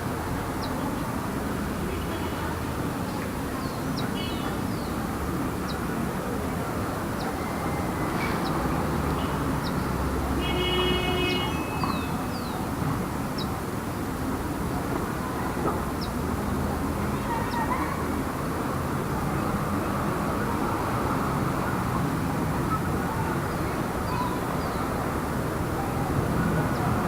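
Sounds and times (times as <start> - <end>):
traffic passing on road: 0.0 - 27.0.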